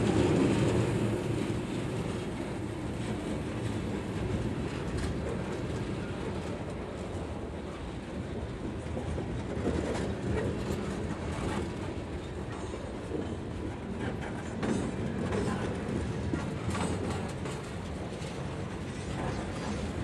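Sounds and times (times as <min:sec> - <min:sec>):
freight train rumbling past: 0:00.0 - 0:20.0
wheels clacking over rail joints: 0:00.0 - 0:20.0.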